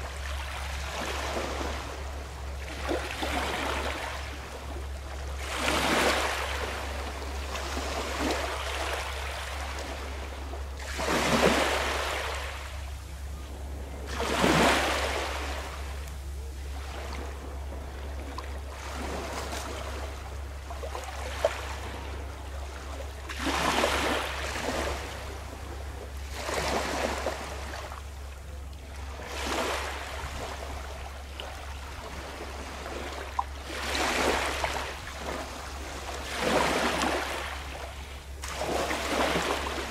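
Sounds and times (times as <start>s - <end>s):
small waves washing ashore: 0.0s - 39.9s
steady low rumble: 0.0s - 39.9s.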